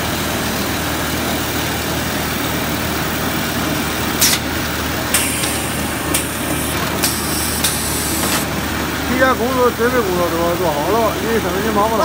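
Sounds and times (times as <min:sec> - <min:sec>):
machine droning and humming: 0:00.0 - 0:12.0.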